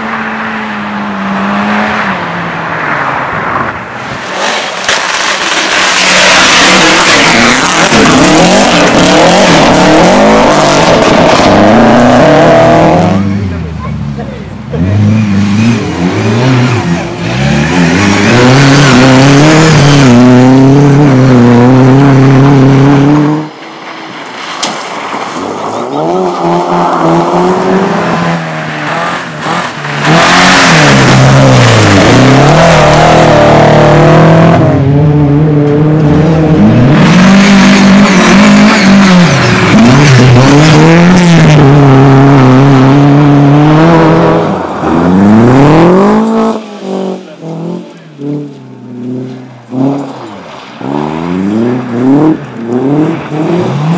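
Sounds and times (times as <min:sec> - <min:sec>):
race car engine revving: 0:04.2 - 0:23.6, 0:24.9 - 0:53.9.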